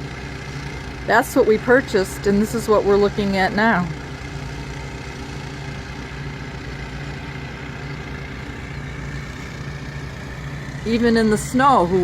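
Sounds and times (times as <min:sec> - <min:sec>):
water pump engines droning: 0:00.0 - 0:12.0.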